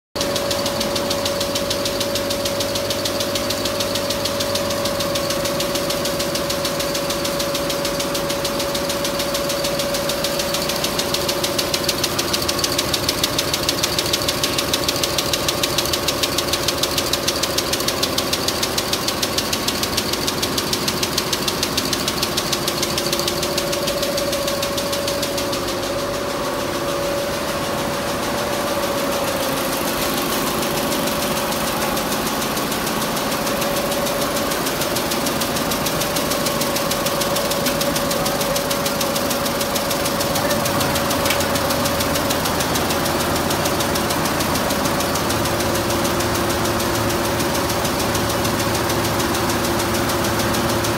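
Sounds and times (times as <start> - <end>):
machine hum: 0.2 - 50.9
quilting machine needles clattering: 0.2 - 50.9.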